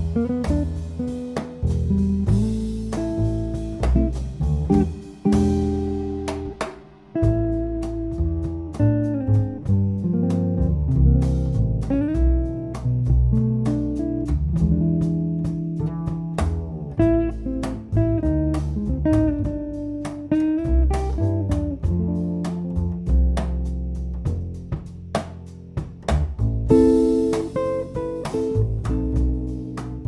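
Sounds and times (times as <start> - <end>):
electric guitar melody: 0.0 - 25.1, 26.2 - 30.0
double bass: 0.0 - 30.0
drums: 0.0 - 30.0.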